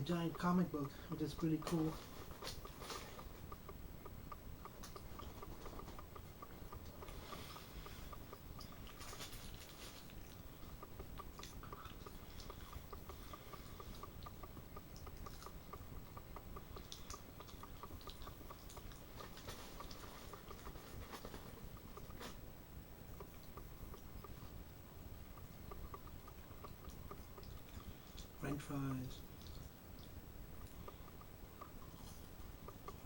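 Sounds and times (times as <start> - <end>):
person chewing food: 1.7 - 28.4, 29.2 - 33.0.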